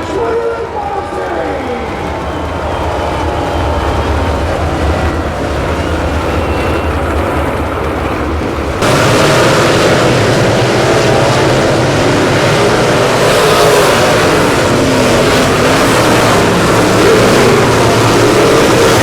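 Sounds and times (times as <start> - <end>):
race car engines revving: 0.0 - 19.0.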